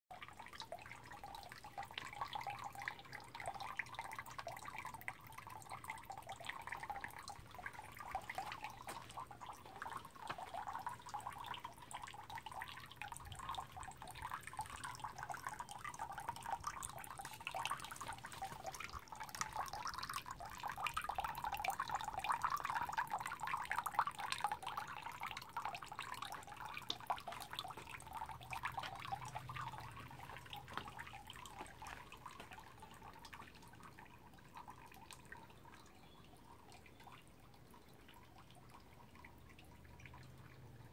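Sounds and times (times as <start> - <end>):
water trickling into stone basin: 0.1 - 40.9.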